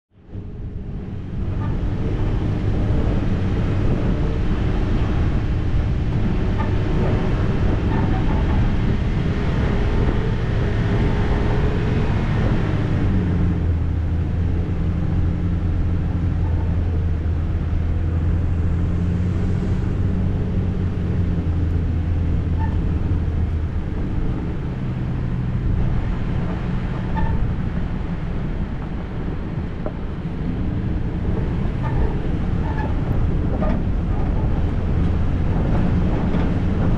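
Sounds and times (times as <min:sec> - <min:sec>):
road and body noise: 0:00.1 - 0:36.9
vehicle engine running: 0:00.1 - 0:36.9.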